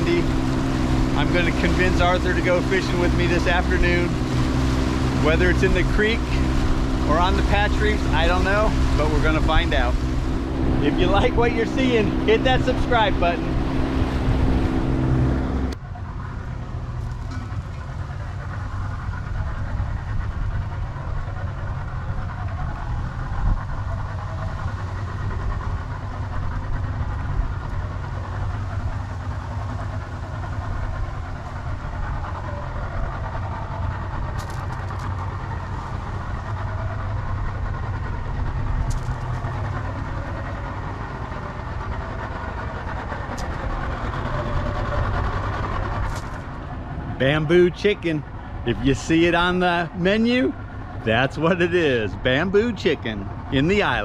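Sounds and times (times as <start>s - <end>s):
outboard boat motor running: 0.0s - 54.0s
water noise: 0.0s - 54.0s
wind: 0.0s - 54.0s.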